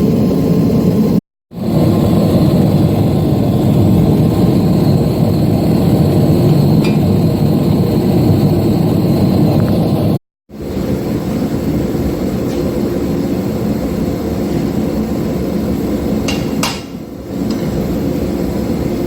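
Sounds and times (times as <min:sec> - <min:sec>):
forge roaring: 0:00.0 - 0:19.0.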